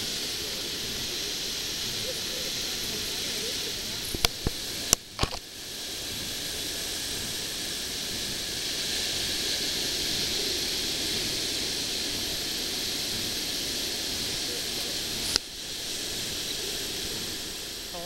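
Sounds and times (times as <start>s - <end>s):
ocean surf hissing: 0.0s - 18.0s
wind: 0.0s - 18.0s.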